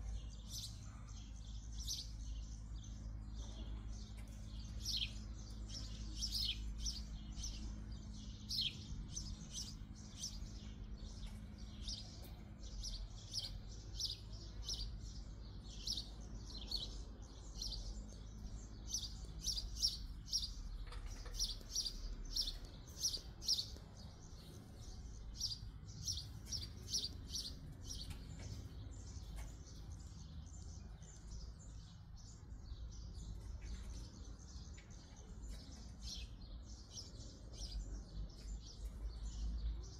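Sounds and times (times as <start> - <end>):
faint low hum: 0.0 - 39.9
small birds chirping: 0.0 - 39.9.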